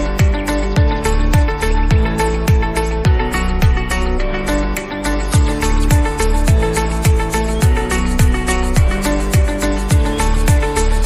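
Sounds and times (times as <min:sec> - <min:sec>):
plucked guitar music: 0:00.0 - 0:11.0
kick drum beat: 0:00.2 - 0:03.9, 0:05.3 - 0:10.8.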